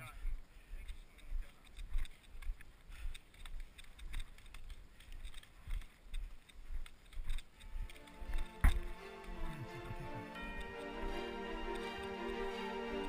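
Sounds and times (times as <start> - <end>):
crackling and rustling of brush: 0.0 - 10.6.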